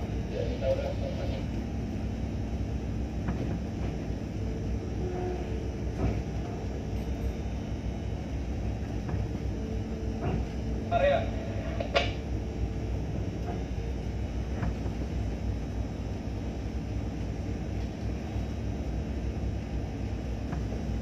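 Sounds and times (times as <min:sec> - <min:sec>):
faint steady hum: 0:00.0 - 0:21.0
ship engine rumbling: 0:00.0 - 0:21.0.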